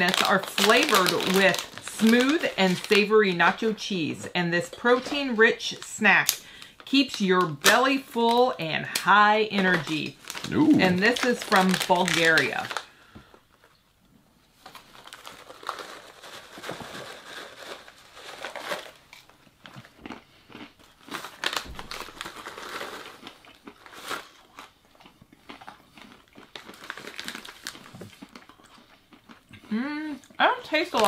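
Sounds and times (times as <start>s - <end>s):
snack bag crinkling: 0.0s - 3.7s, 5.8s - 13.7s, 14.6s - 29.5s.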